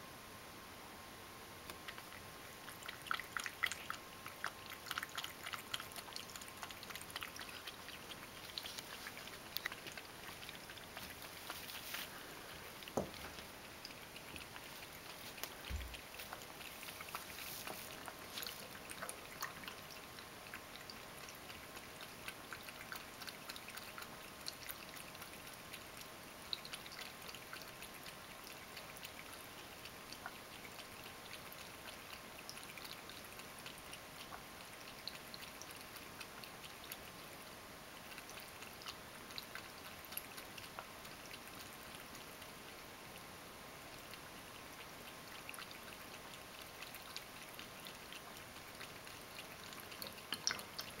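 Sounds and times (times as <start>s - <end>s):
cat lapping water: 1.6s - 51.0s.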